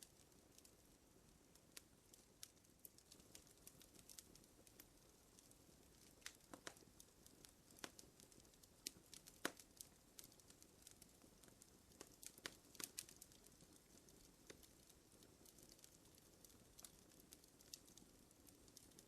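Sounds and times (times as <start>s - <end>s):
fire crackling softly: 0.0s - 19.0s.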